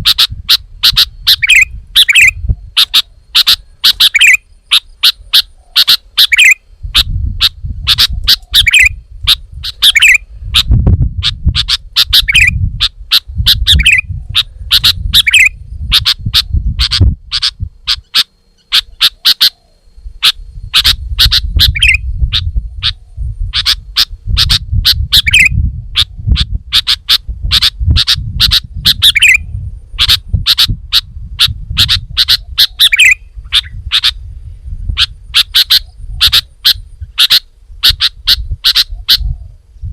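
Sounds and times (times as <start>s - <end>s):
bulbul chirping: 0.0s - 34.2s, 35.0s - 39.3s.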